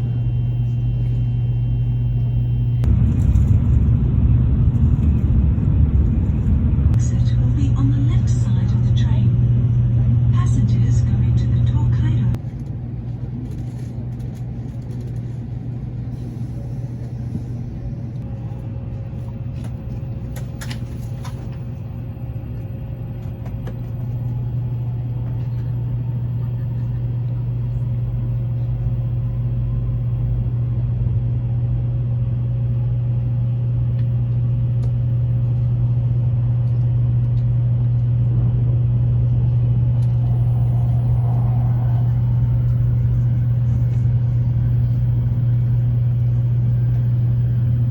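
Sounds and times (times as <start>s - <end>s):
train running: 0.0s - 38.1s, 39.4s - 47.9s.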